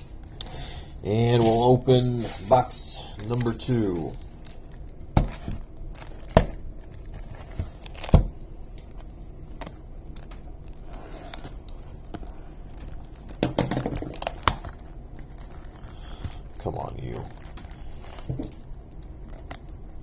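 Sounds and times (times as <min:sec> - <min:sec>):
plastic shrink wrap crinkling: 0:01.0 - 0:20.0.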